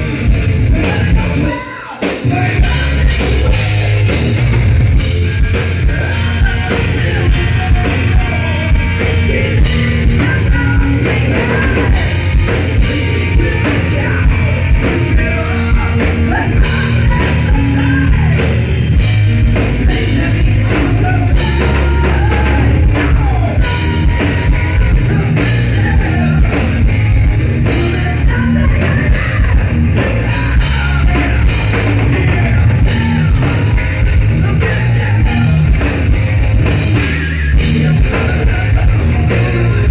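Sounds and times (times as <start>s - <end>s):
hard rock band playing: 0.0s - 39.9s
person singing: 0.7s - 4.2s, 5.0s - 18.7s, 19.6s - 27.0s, 27.6s - 36.0s, 36.9s - 39.9s.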